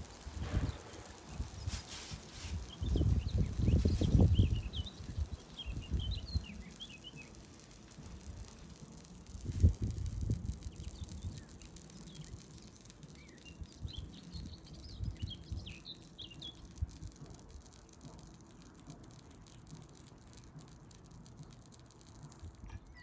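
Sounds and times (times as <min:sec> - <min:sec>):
food sizzling and crackling: 0:00.0 - 0:23.0.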